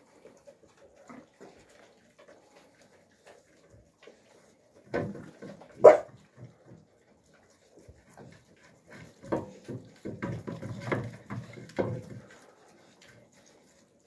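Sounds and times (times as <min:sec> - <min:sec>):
puppies chewing and gulping: 0:00.0 - 0:14.0.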